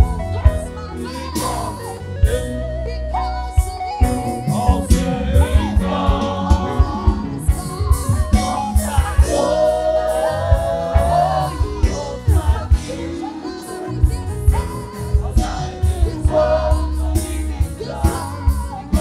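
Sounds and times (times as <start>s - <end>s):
band playing: 0.0s - 19.0s
steady bass: 0.0s - 19.0s
voices singing gospel: 0.0s - 19.0s.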